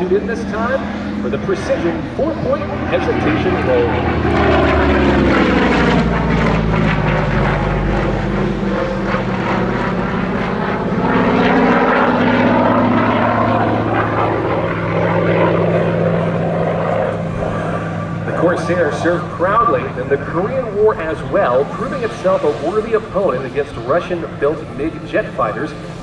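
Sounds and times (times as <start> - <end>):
propeller plane engine in flight: 0.0 - 26.0.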